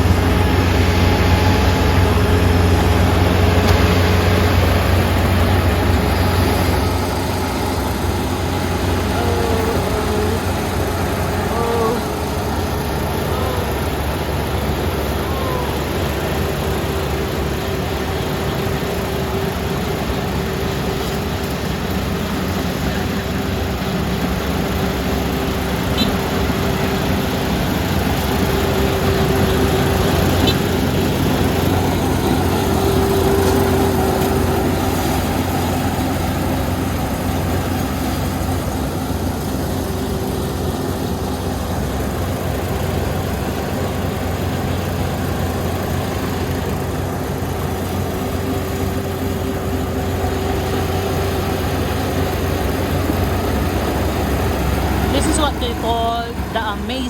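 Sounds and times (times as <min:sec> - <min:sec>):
combine harvester droning: 0:00.0 - 0:57.0
mid-pitched machine whine: 0:00.0 - 0:57.0.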